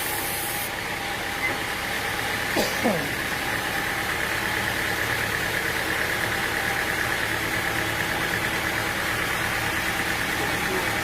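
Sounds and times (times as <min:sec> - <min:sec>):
sawmill machinery drone: 0:00.0 - 0:11.0.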